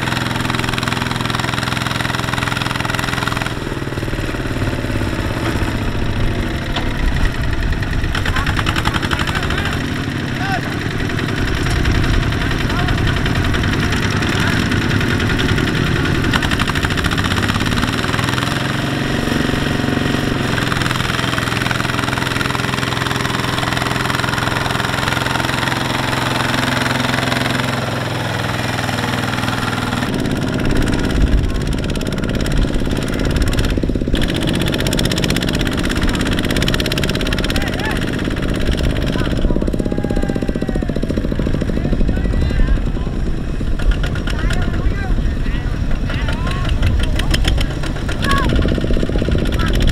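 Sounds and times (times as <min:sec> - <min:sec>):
diesel tractor engine chugging: 0:00.0 - 0:49.9.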